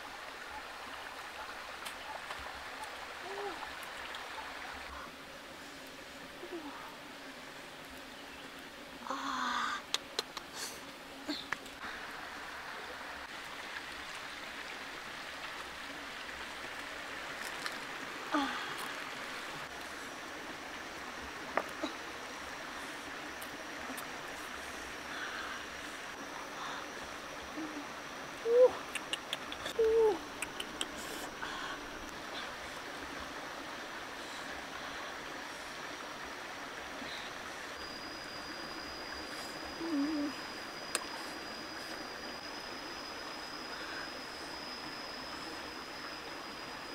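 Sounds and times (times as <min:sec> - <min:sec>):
shallow stream running over rocks: 0:00.0 - 0:46.9.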